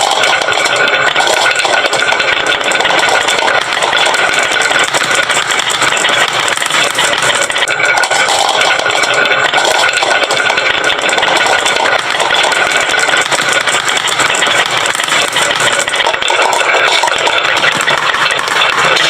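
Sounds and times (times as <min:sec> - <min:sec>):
marbles rattling down wooden slope: 0:00.0 - 0:19.0.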